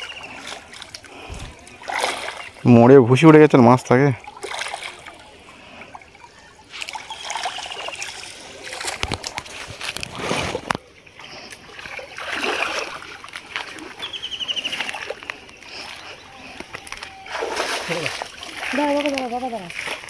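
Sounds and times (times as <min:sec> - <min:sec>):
pond water splashing: 0:00.0 - 0:20.0.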